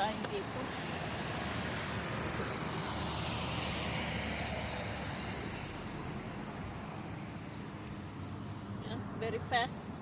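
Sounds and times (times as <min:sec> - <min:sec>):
passing vehicle rushing drone: 0:00.2 - 0:10.0.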